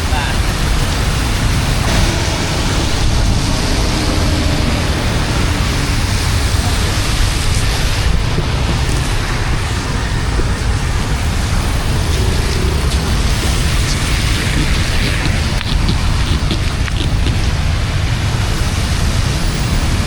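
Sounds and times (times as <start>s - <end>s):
floodwater rushing: 0.0s - 20.0s
heavy low rumble: 0.0s - 20.0s
rain: 0.0s - 20.0s.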